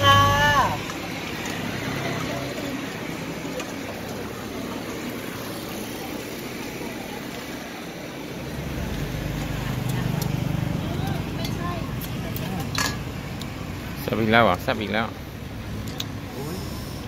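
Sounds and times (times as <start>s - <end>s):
background street hum: 0.0s - 17.0s
faint voices: 0.0s - 17.0s.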